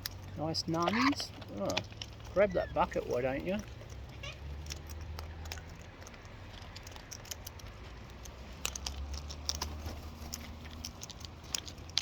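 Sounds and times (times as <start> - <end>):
bird beak and claws clicking: 0.0 - 12.0.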